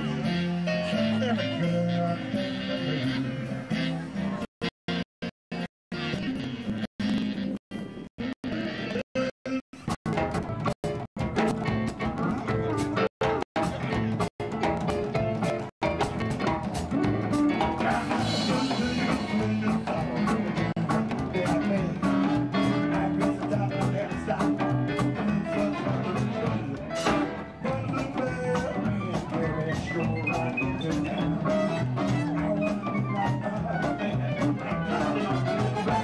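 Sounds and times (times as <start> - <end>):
live band playing: 0.0 - 8.0, 8.6 - 36.0.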